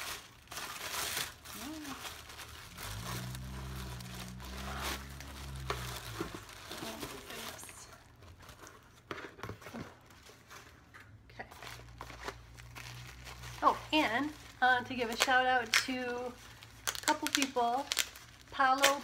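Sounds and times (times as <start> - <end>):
tissue paper and plastic crinkling: 0.0 - 19.0.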